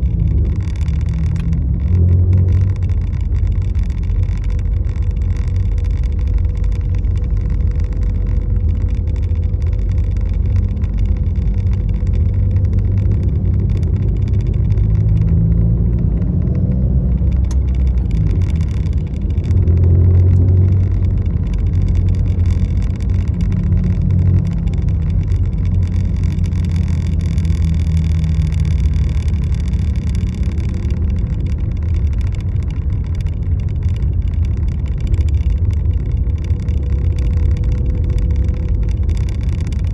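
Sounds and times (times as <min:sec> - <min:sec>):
car low rumble: 0:00.0 - 0:39.9.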